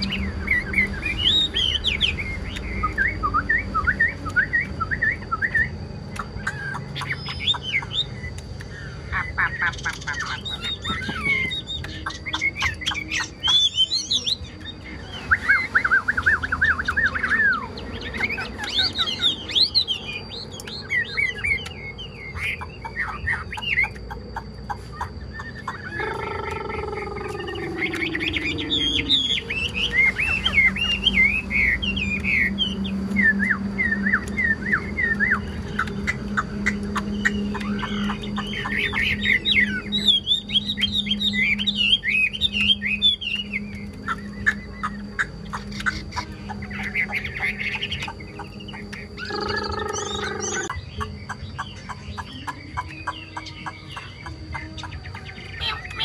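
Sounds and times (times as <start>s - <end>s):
bird singing whistled song: 0.0s - 56.0s.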